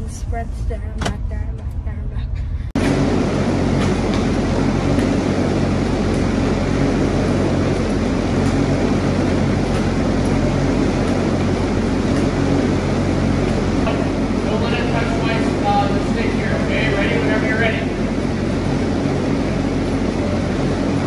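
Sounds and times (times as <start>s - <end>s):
treadmill motor hum: 2.7s - 21.0s.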